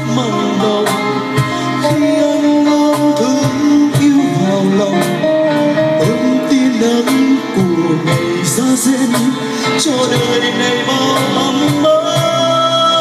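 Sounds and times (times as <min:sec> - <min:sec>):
guitar: 0:00.0 - 0:13.0
man singing into microphone: 0:00.0 - 0:13.0.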